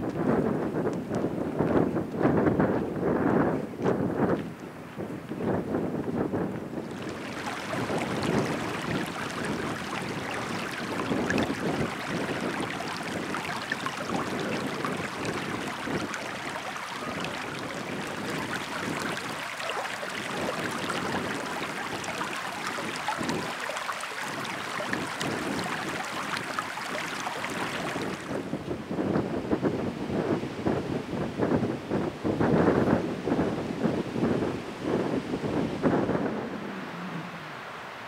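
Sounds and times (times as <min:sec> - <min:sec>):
wind gusting on microphone: 0:00.0 - 0:38.0.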